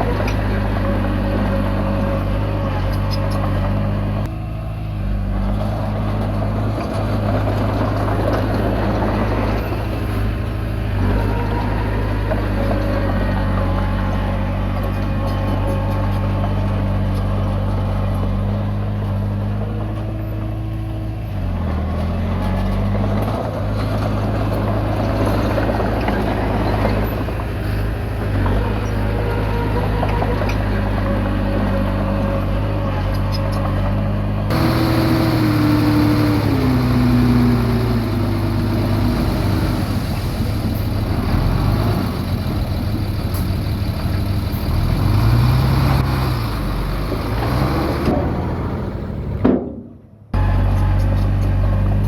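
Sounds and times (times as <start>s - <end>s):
bulldozer diesel engine under load: 0.0s - 52.0s.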